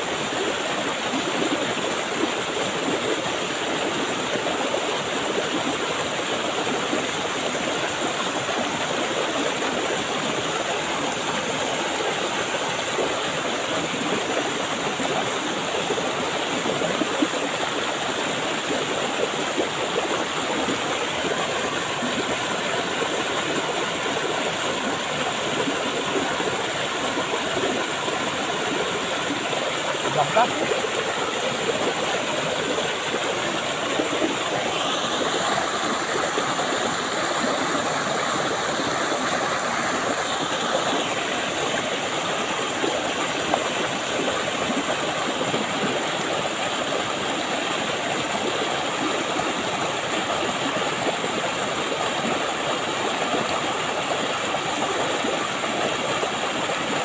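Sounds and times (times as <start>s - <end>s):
river cascading over rocks: 0.0s - 57.0s.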